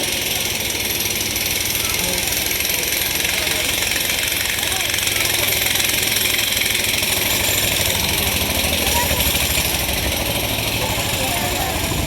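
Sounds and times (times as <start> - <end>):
train rumbling and rattling: 0.0 - 12.0.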